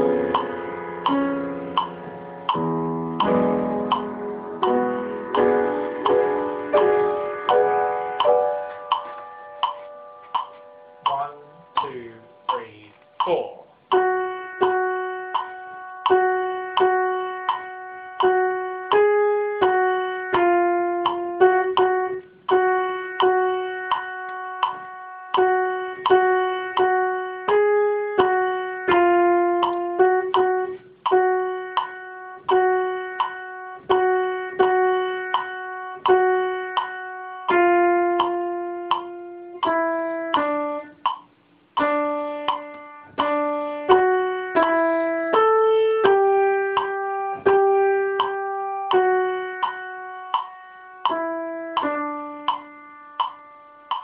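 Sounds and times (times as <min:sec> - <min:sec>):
slow piano notes: 0:00.0 - 0:54.0.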